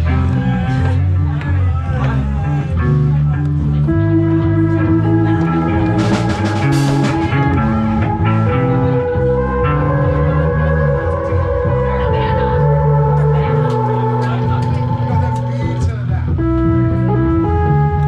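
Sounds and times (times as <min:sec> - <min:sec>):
bass line: 0:00.0 - 0:18.0
electric guitar: 0:00.0 - 0:18.0.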